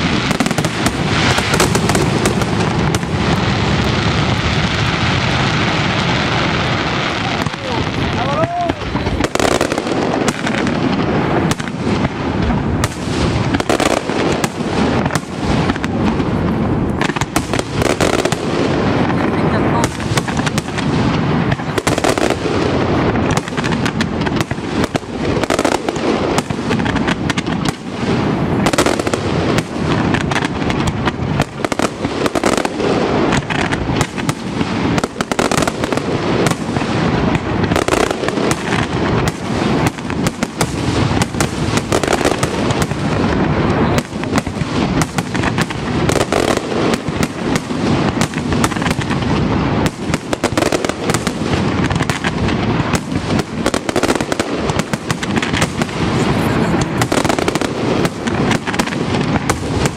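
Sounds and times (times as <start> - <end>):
fireworks bangs: 0.0 - 59.9.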